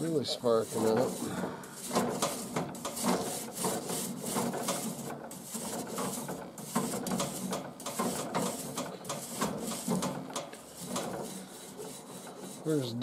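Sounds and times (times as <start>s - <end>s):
tongs scraping burning wood: 0.0s - 13.0s.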